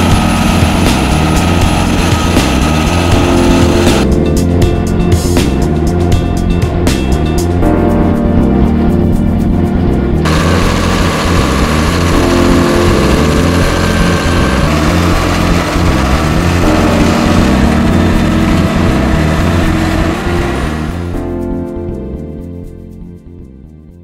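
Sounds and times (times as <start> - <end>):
tractor engine running: 0.0 - 21.4.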